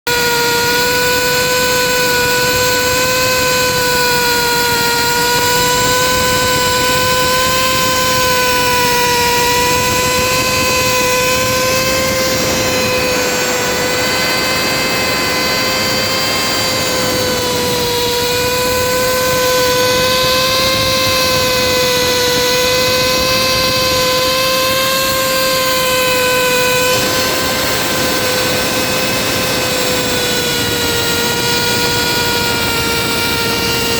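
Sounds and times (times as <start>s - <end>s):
grinding machine motor whine: 0.0s - 33.9s
rough machinery noise: 0.0s - 33.9s.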